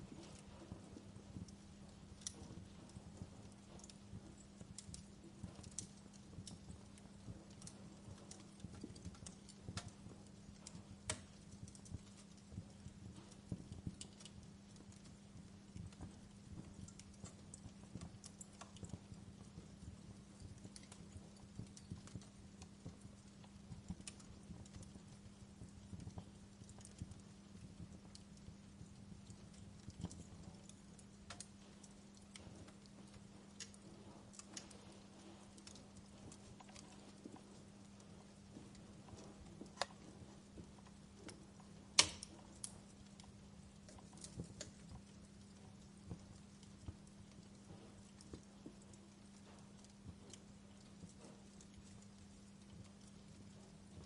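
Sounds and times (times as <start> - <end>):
faint low hum: 0.0 - 54.0
wood fire crackling: 0.0 - 54.0.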